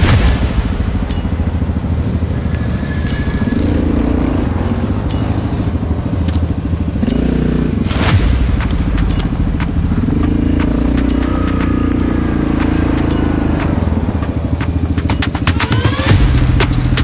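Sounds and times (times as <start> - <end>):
ticks and clatter: 1.0 - 17.0
atv engine revving: 1.4 - 8.1, 9.1 - 17.0.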